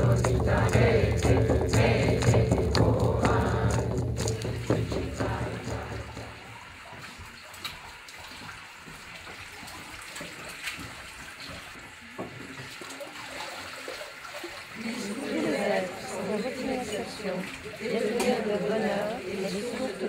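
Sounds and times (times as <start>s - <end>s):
water running from tap: 0.0s - 20.0s.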